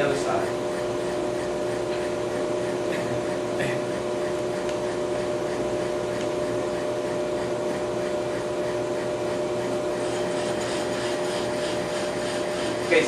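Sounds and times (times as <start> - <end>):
brake lathe humming: 0.0 - 13.0
cutting bit scraping rotor: 0.0 - 13.0.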